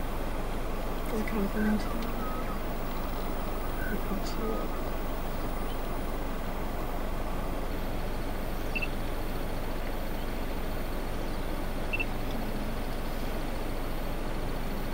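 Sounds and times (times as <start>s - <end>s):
rushing outdoor background noise: 0.0s - 14.9s.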